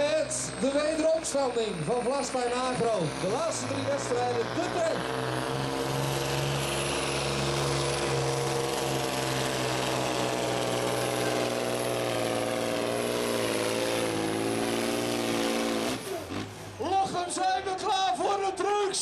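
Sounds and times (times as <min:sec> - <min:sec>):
truck diesel engine at full load: 0:00.0 - 0:19.0.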